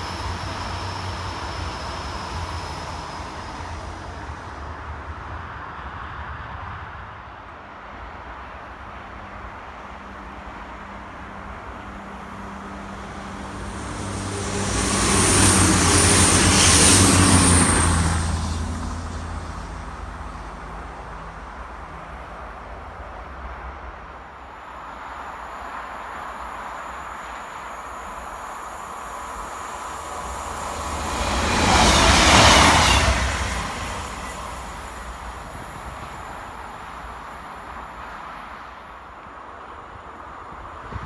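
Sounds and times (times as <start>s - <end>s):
departing train rumble: 0.0s - 7.4s, 8.7s - 25.6s, 26.4s - 39.0s
train passing at speed: 0.0s - 41.0s.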